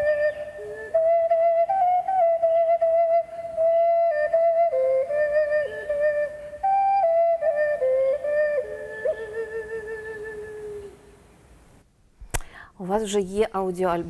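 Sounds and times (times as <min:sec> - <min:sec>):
wooden flute slow melody: 0:00.0 - 0:11.3.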